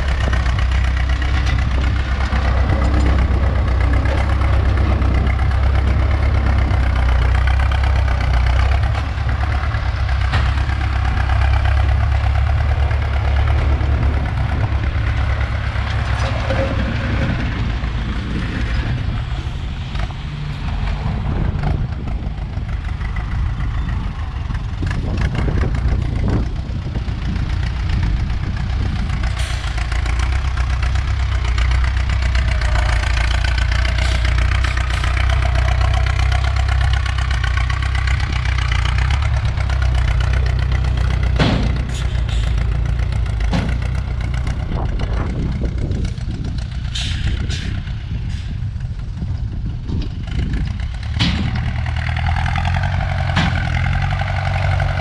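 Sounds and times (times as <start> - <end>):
knocks and clanks: 0.0 - 23.5, 24.8 - 48.5, 49.2 - 55.0
tractor diesel engine running: 0.0 - 55.0.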